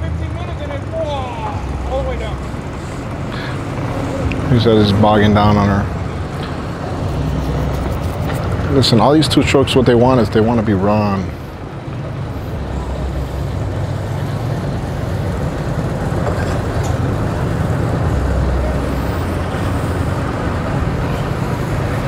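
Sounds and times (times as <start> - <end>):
engine rumble idling: 0.0 - 22.0.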